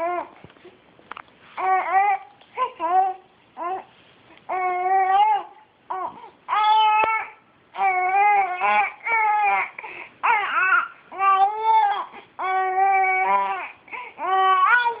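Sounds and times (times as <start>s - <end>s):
baby crying: 1.6s - 3.9s, 4.5s - 15.0s.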